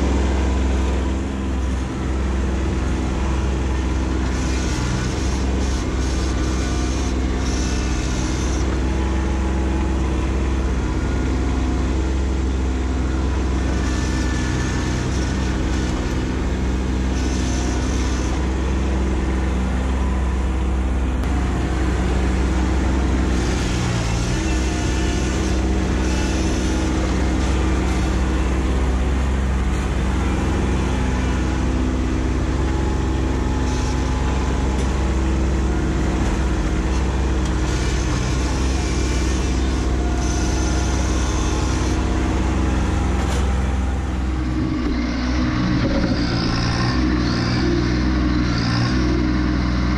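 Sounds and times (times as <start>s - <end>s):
tractor diesel engines running: 0.0s - 49.9s.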